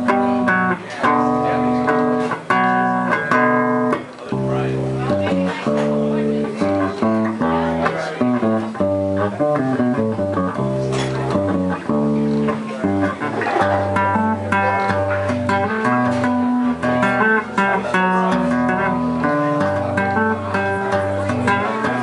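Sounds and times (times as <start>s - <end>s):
electric bass playing chords: 0.0s - 22.0s.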